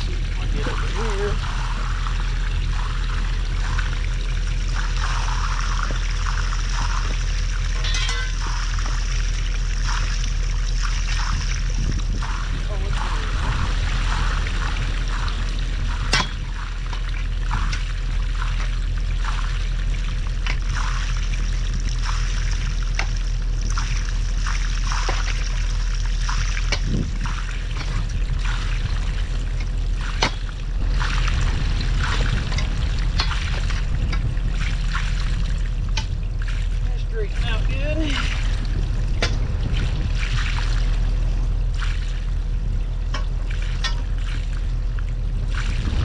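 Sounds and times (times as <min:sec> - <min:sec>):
low engine hum: 0:00.0 - 0:46.0
water trickling and splashing: 0:00.0 - 0:46.0.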